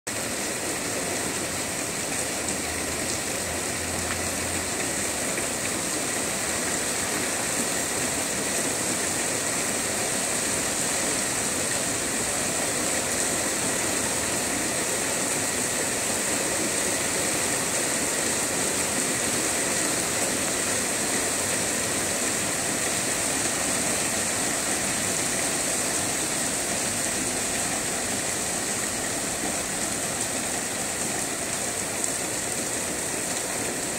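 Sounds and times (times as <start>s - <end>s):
rain falling on trees: 0.1s - 33.9s.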